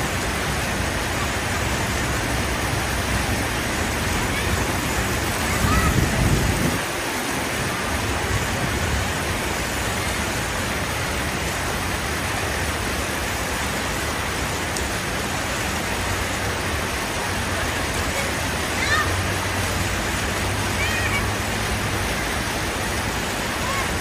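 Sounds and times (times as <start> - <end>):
rushing street hiss: 0.0 - 24.0.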